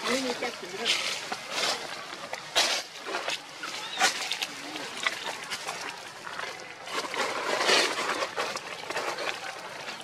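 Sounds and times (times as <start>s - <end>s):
rustling dry leaves: 0.0s - 10.0s.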